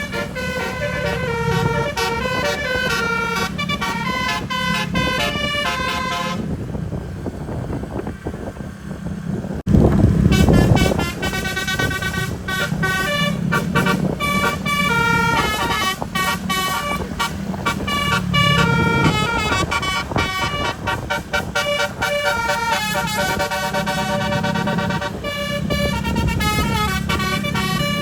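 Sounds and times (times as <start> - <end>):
musical air horn melody: 0.0 - 6.6, 10.2 - 28.0
low vehicle rumble: 0.0 - 28.0.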